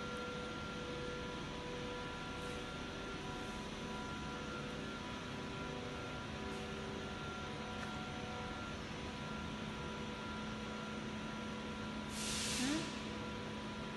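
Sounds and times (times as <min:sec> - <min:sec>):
factory machinery hum: 0:00.0 - 0:13.9.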